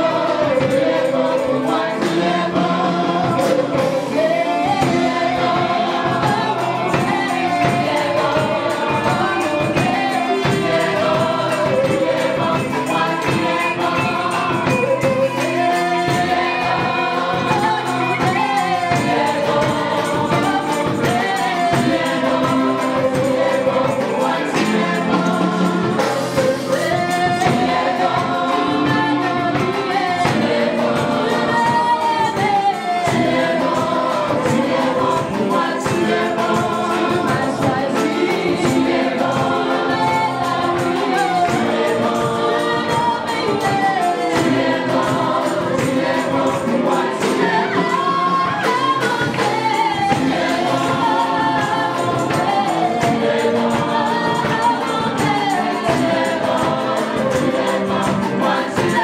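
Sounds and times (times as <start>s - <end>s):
backing voices singing: 0.0s - 59.0s
drums steady beat: 0.0s - 59.0s
electric guitar: 0.0s - 59.0s
keyboard: 0.0s - 59.0s
woman singing lead: 0.0s - 59.0s.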